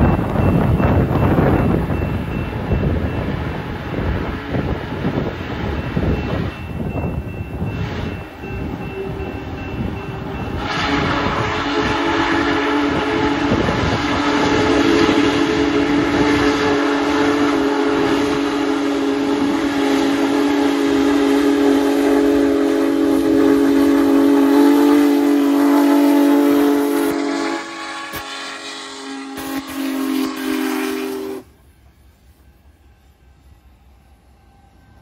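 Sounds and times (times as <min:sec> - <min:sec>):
steam locomotive whistle chord: 0:00.0 - 0:35.0.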